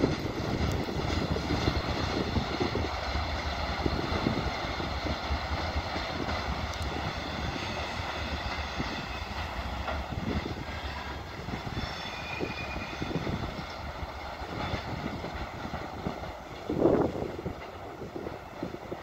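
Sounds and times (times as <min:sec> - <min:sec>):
freight wagons rumbling on rails: 0:00.0 - 0:19.0.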